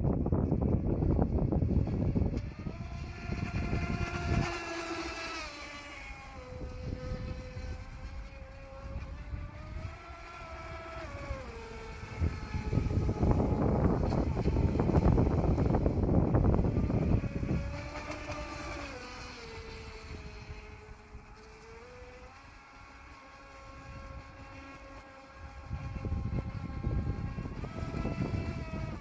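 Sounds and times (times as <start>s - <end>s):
wind on microphone: 0.0s - 29.0s
electric motor whining: 0.1s - 29.0s.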